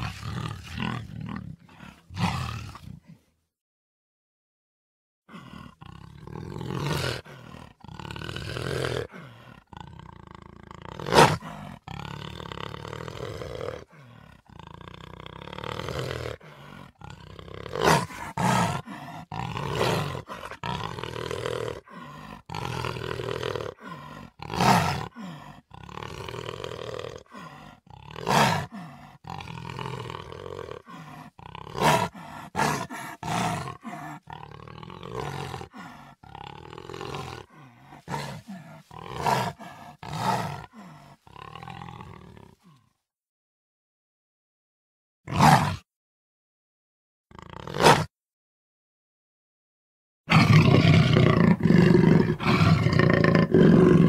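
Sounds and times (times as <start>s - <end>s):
creature roars and snarls: 0.0s - 3.2s, 5.3s - 43.0s, 45.3s - 45.9s, 47.3s - 48.1s, 50.3s - 54.0s
low creature growling: 0.0s - 3.3s, 5.3s - 43.0s, 47.3s - 48.1s, 50.3s - 54.0s.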